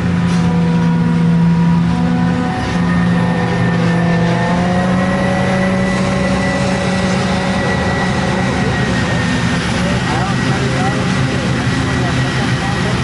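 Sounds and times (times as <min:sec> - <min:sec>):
heavy machinery engines humming: 0:00.0 - 0:13.0
high machine whine: 0:00.0 - 0:13.0.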